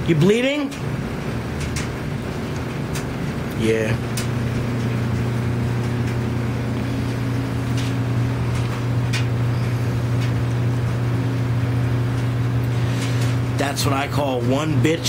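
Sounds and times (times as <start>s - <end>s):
constant background noise: 0.0s - 15.0s
low mechanical hum: 0.0s - 15.0s.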